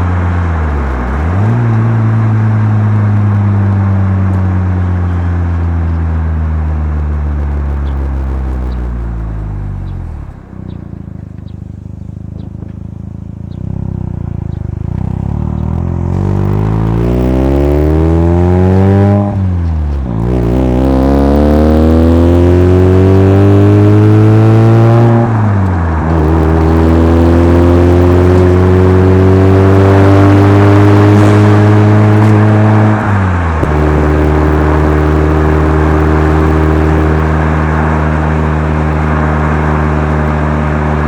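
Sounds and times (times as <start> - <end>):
rotary engine accelerating: 0.0 - 41.0.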